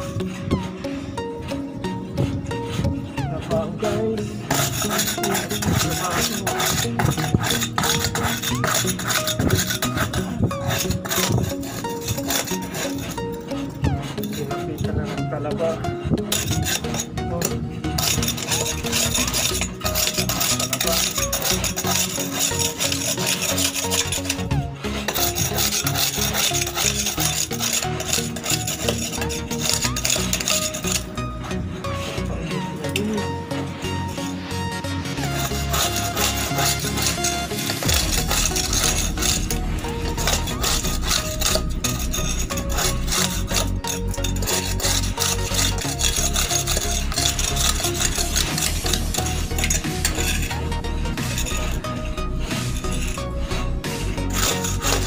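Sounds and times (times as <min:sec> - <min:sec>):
background music: 0:00.0 - 0:55.0
rough scraping on hull: 0:00.0 - 0:55.0.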